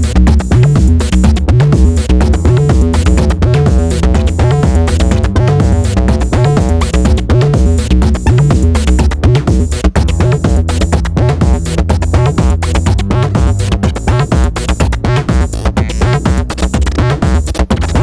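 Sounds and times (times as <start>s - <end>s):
filtered synthesizer notes: 0.0s - 18.0s
heavy synth bass: 0.0s - 18.0s.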